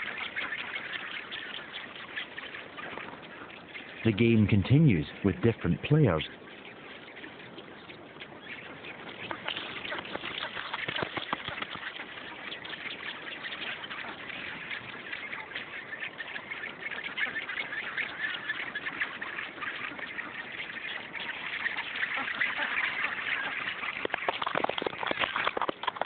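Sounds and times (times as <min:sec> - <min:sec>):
penguin colony squawking: 0:00.0 - 0:24.2.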